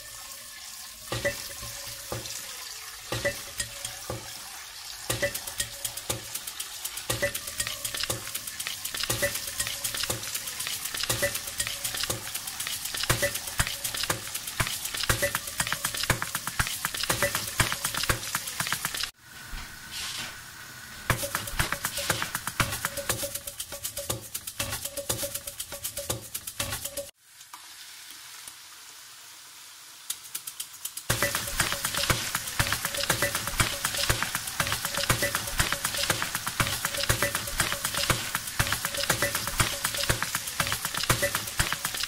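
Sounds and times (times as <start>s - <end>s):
sizzling: 0.0s - 42.0s
rhythmic click: 1.1s - 2.5s, 3.1s - 4.4s, 5.0s - 19.2s, 21.1s - 27.1s, 30.1s - 42.0s
steady hiss: 5.1s - 26.6s, 27.4s - 42.0s.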